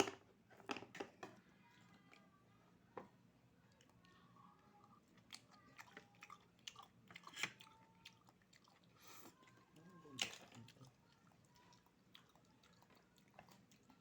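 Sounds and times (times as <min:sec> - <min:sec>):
quiet chewing: 0:00.5 - 0:14.0.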